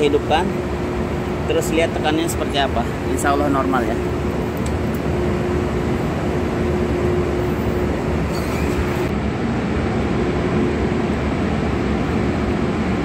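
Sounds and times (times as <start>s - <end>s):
ventilation fans droning: 0.0s - 13.0s.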